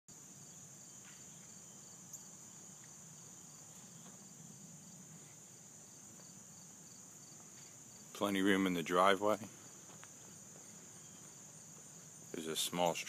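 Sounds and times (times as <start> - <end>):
faint insect chirps: 0.1 - 13.0
insects droning: 0.1 - 13.0.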